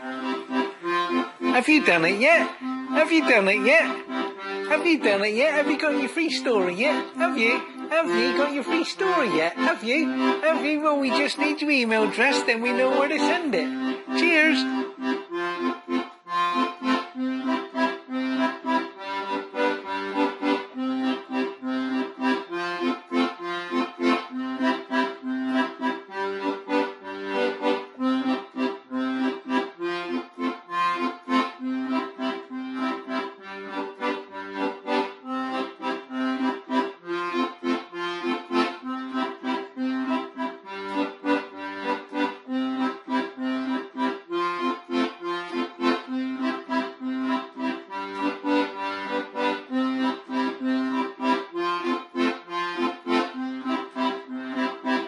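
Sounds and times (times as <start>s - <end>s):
accordion-led tune with beat: 0.0s - 55.0s.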